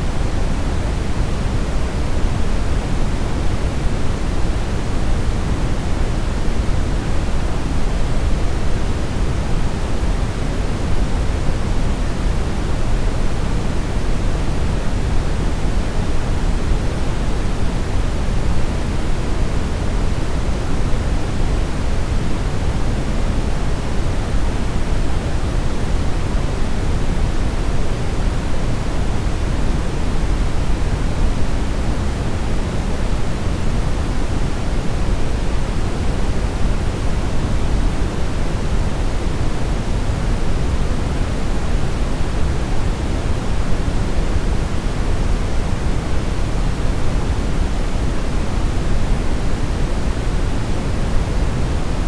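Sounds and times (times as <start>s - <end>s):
brown noise hiss: 0.0s - 52.0s.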